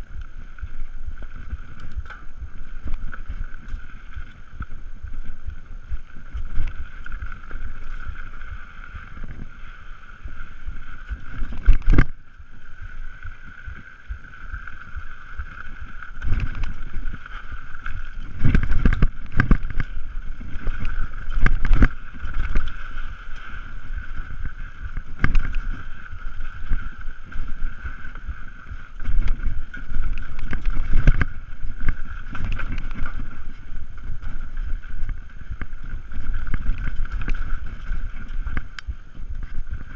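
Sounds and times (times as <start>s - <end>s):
bike jolts and rattles: 0.0s - 39.9s
bike tyres on dirt: 0.0s - 39.9s
wind rumbling: 0.0s - 39.9s.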